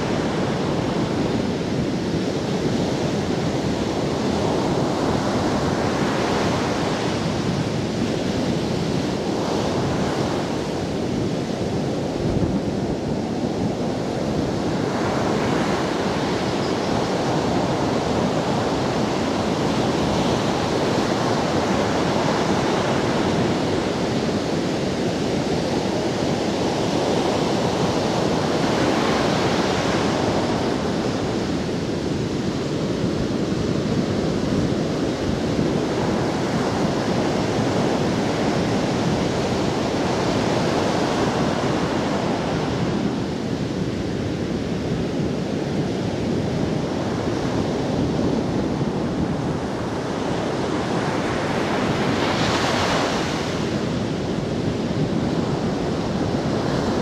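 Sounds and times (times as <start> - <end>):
wind: 0.0 - 57.0.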